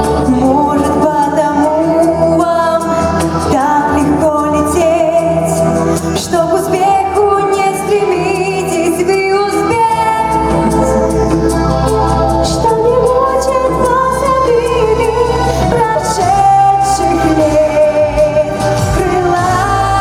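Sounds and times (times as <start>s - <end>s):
instrumental accompaniment: 0.0s - 20.0s
woman singing pop song: 0.0s - 20.0s.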